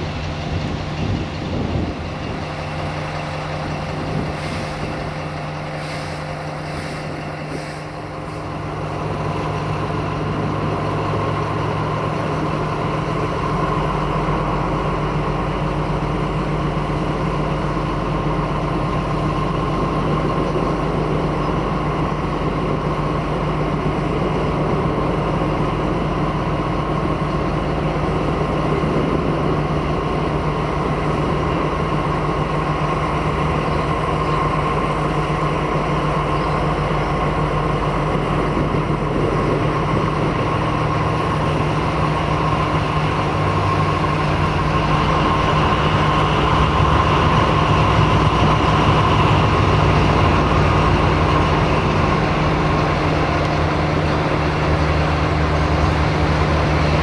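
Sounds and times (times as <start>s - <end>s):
locomotive diesel engine running: 0.0s - 57.0s.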